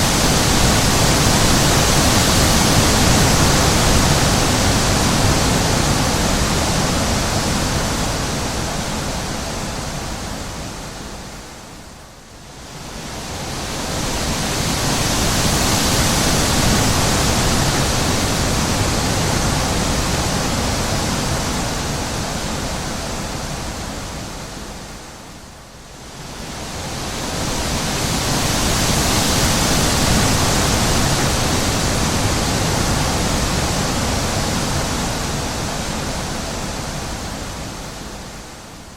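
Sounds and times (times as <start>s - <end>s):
wind blowing: 0.0s - 24.9s, 25.9s - 38.9s.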